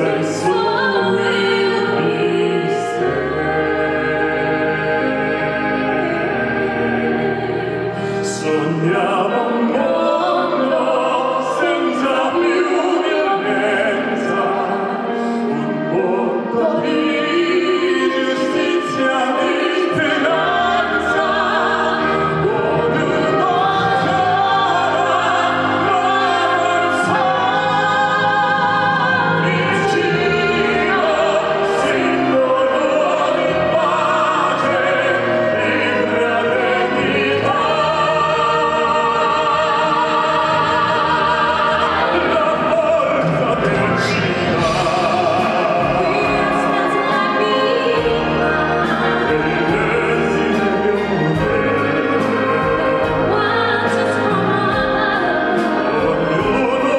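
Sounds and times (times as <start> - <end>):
operatic singing with vibrato: 0.0 - 56.9
orchestral backing: 0.0 - 56.9.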